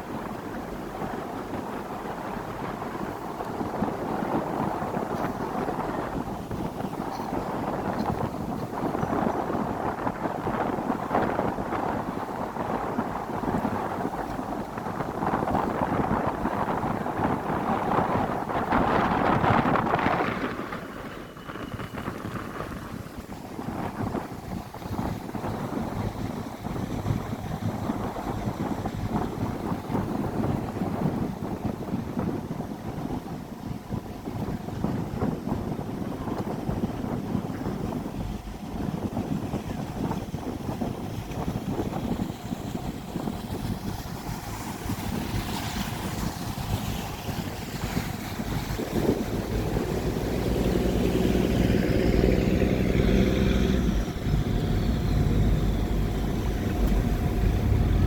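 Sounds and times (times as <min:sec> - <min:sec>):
boat engine drone: 0:00.0 - 0:58.0
water rushing past boat: 0:00.0 - 0:58.0
wind buffeting microphone: 0:00.0 - 0:58.0.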